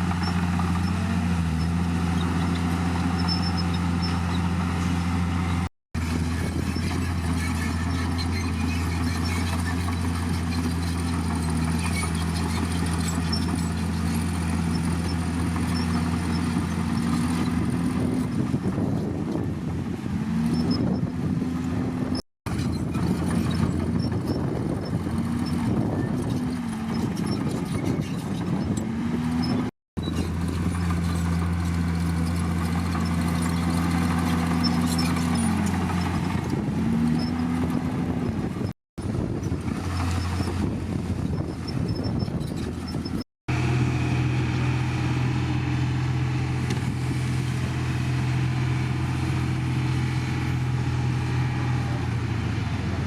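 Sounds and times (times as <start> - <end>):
diesel machinery engine revving: 0.0 - 53.0.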